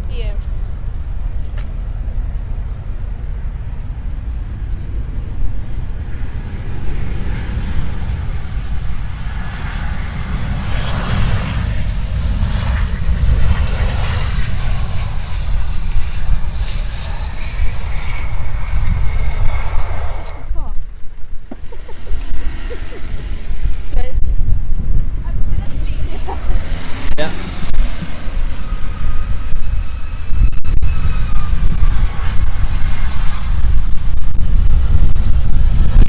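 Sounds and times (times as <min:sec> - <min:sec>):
aircraft engines roaring: 0:00.0 - 0:36.0
high whine falling in pitch: 0:00.0 - 0:36.0
steady low rumble: 0:00.0 - 0:36.0.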